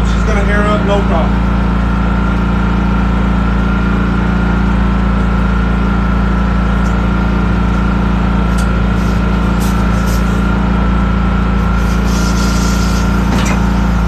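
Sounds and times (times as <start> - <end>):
engine idling: 0.0 - 14.0
thin steady whine: 0.0 - 14.0.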